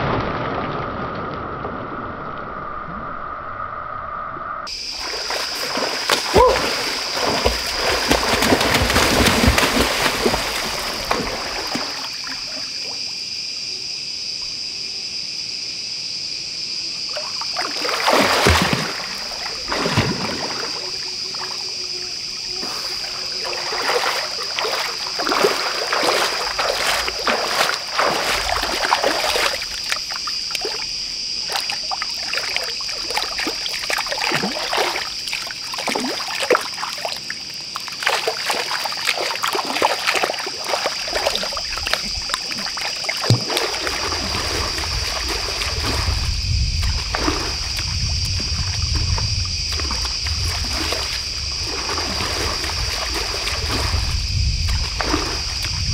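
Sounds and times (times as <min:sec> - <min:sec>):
water splashing and trickling: 0:04.7 - 0:13.3, 0:17.0 - 0:55.9.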